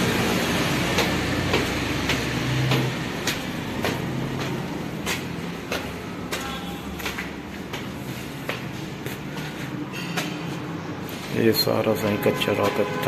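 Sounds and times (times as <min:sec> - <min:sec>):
footsteps on concrete stairs: 0:00.0 - 0:11.8.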